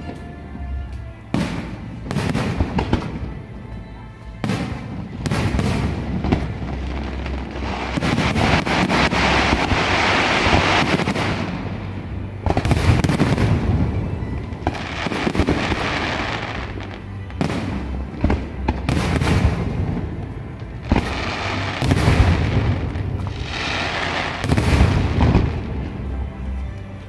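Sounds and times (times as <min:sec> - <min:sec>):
fireworks bangs with crackle: 0:00.9 - 0:03.4, 0:04.4 - 0:20.0, 0:20.9 - 0:26.0.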